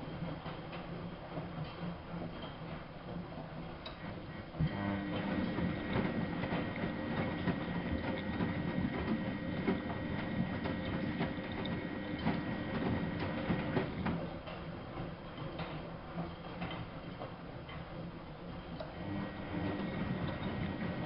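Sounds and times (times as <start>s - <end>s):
washing machine hum: 0.0s - 21.0s.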